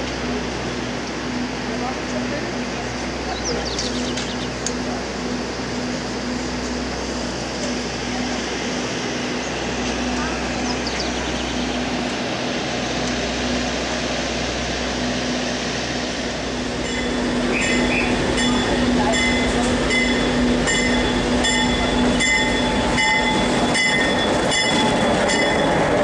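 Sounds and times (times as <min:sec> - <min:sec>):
diesel train running: 0:00.0 - 0:26.0.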